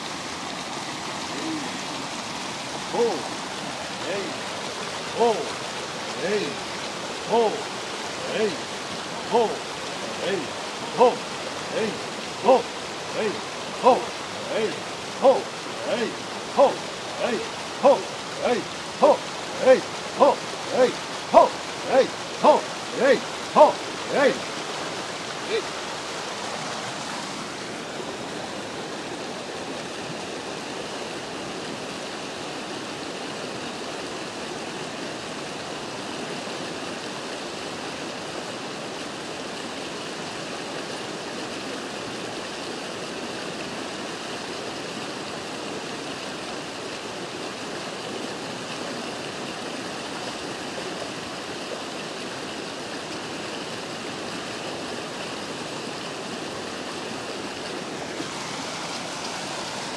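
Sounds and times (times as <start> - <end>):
river rushing over rapids: 0.0 - 59.9.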